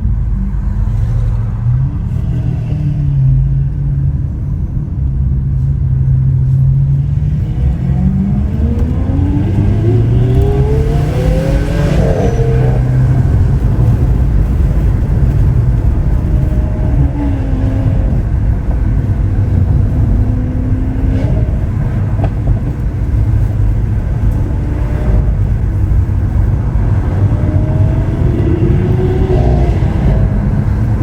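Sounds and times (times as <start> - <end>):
car engine cruising: 0.0 - 31.0
road and wind noise: 0.0 - 31.0.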